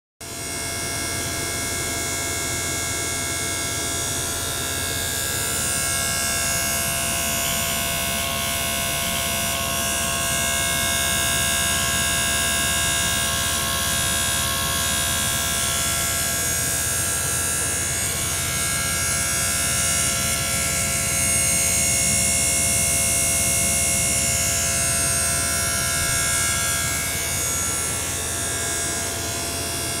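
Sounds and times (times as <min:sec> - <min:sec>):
electric buzz of pump: 0:00.2 - 0:30.0.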